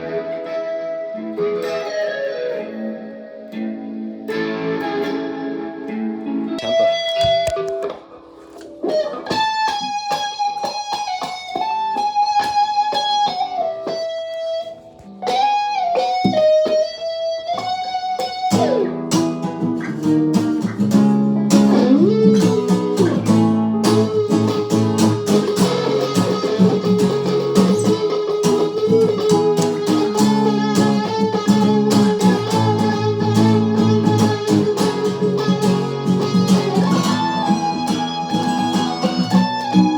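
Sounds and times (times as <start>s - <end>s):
guitar playing: 0.0s - 39.9s.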